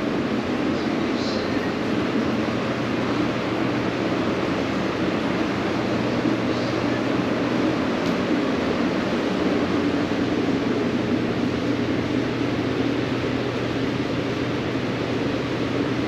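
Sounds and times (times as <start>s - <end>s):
cooler fan rushing air: 0.0s - 16.0s.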